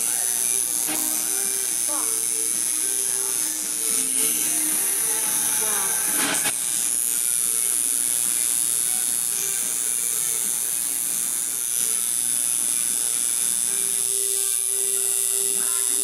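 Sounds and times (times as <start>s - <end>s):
tattoo machine buzzing: 0.0s - 16.0s.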